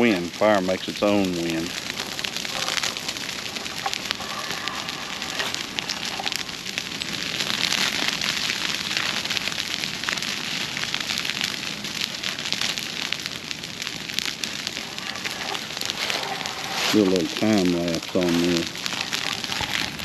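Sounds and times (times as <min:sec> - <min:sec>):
grass fire crackling and popping: 0:00.0 - 0:20.0.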